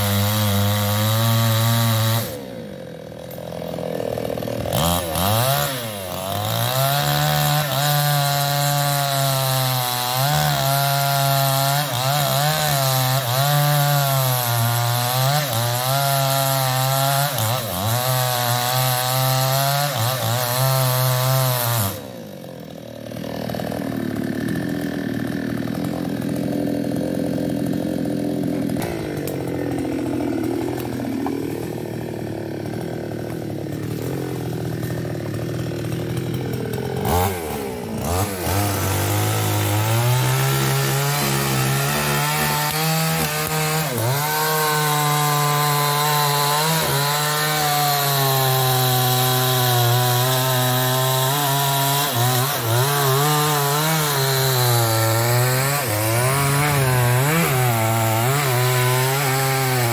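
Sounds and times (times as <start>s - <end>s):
chainsaw cutting wood: 0.0s - 59.9s
chainsaw idling: 0.0s - 59.9s.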